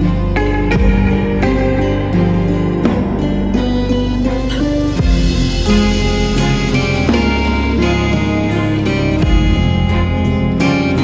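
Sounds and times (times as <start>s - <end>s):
plucked guitar-like notes: 0.0s - 11.0s
steady bass: 0.0s - 11.0s.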